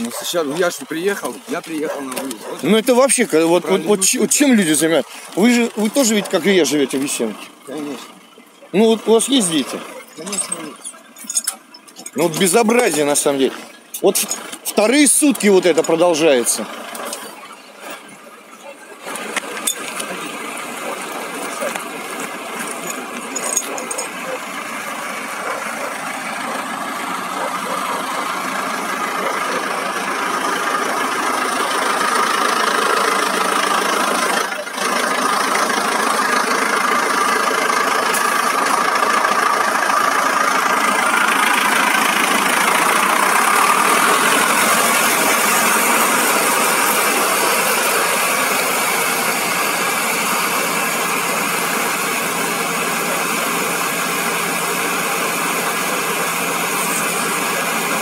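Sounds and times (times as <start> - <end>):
fire engine idling: 0.0 - 58.0.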